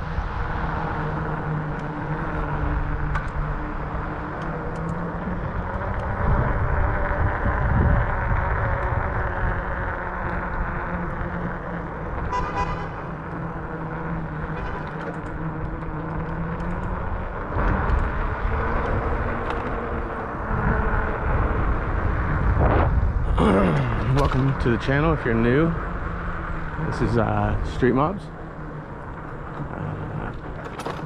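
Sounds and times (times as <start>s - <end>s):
wind buffeting microphone: 0.0s - 14.5s, 15.3s - 31.0s
tyre rumble on road: 0.0s - 31.0s.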